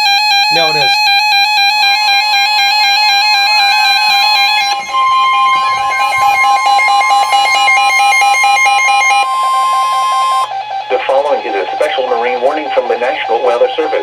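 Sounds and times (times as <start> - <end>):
steady warning alarm tone: 0.0 - 14.0
two-pitch beeping alert alarms: 0.0 - 14.0.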